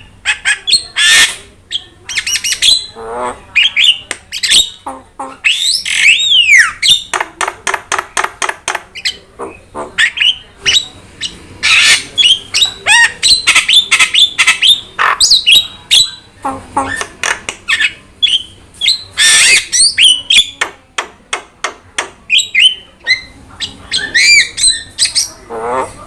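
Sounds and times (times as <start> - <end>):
starling singing: 0.0 - 20.8, 22.0 - 26.0.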